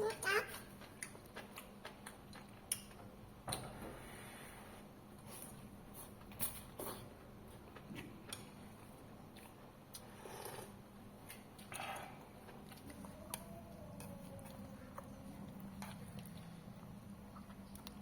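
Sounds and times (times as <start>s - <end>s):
soft eating noises: 0.0s - 18.0s.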